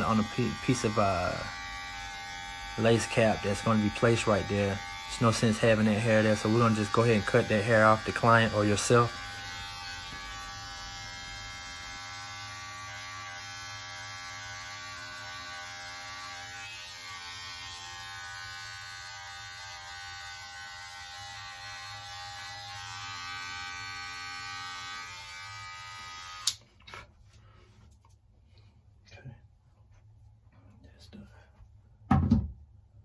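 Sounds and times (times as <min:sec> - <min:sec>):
electric hair clippers buzzing: 0:00.0 - 0:26.6.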